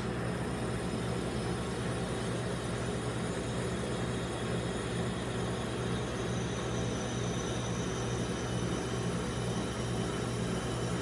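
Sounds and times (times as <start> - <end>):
machine humming with hiss: 0.0 - 11.0.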